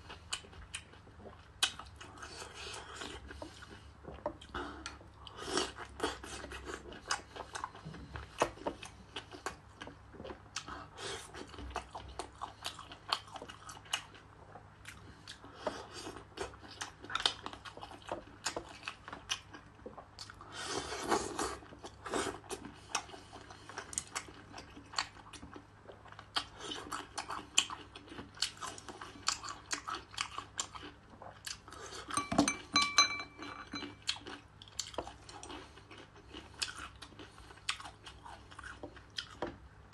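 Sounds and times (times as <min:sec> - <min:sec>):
chewing with wet mouth clicks: 0:00.0 - 0:20.5, 0:21.1 - 0:39.6.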